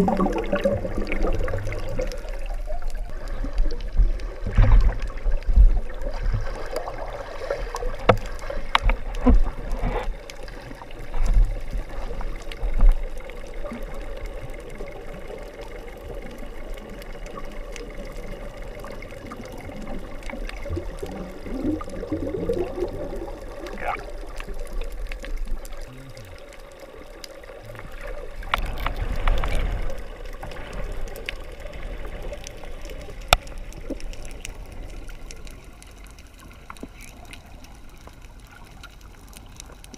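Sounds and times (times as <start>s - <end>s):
underwater bubbling: 0.0s - 39.9s
underwater water noise: 0.0s - 39.9s.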